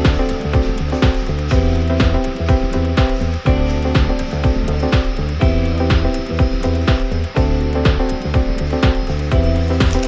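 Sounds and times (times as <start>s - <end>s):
sustained chords: 0.0s - 10.0s.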